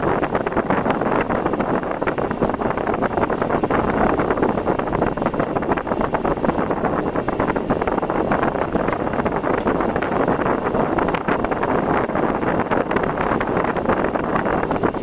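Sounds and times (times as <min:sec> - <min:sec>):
car driving in wind and rain: 0:00.0 - 0:15.0
wind buffeting microphone: 0:00.0 - 0:15.0.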